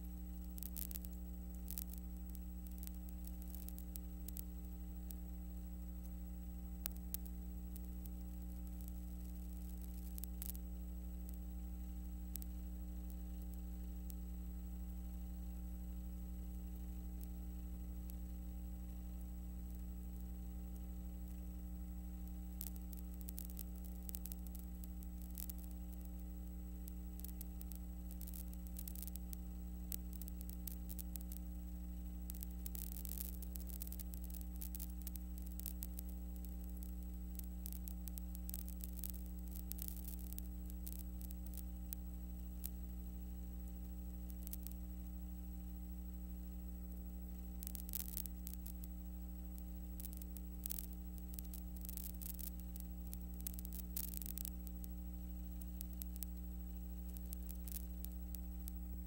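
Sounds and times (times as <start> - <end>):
electrical mains hum: 0.0 - 59.0
faint crackles and clicks: 0.0 - 59.0.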